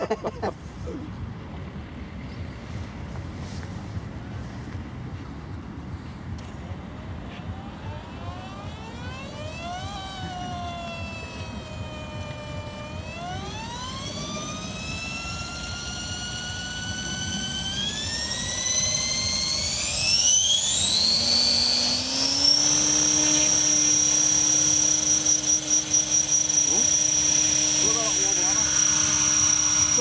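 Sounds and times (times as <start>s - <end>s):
low rotor tone: 0.0s - 30.0s
model helicopter motor whine: 0.8s - 30.0s.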